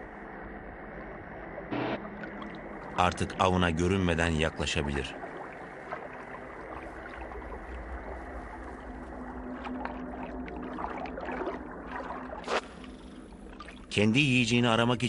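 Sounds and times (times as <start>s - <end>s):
underwater gurgling water: 0.0s - 14.0s
low steady tone: 0.0s - 15.0s.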